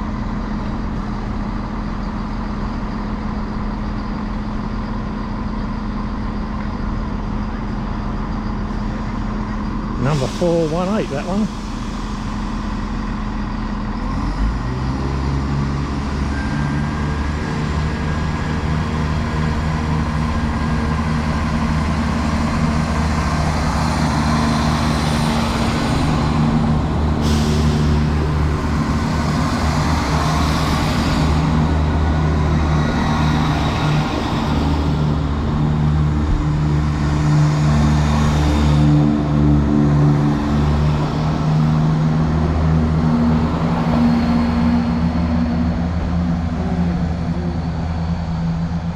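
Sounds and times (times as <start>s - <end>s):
diesel train engine drone: 0.0s - 48.9s.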